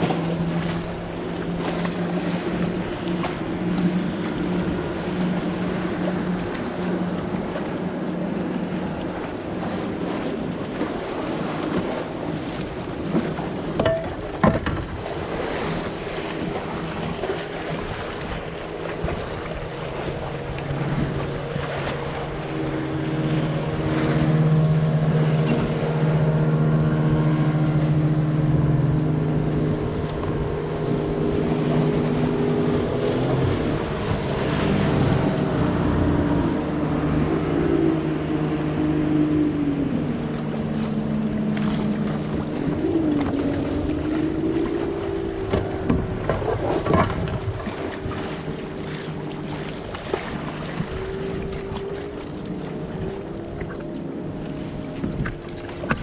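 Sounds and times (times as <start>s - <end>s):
outboard motors droning: 0.0s - 56.0s
water noise: 0.0s - 56.0s
wind: 0.0s - 56.0s.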